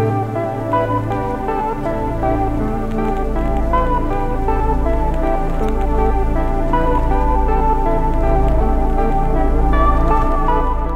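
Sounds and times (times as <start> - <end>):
ambient electronic music: 0.0 - 10.9.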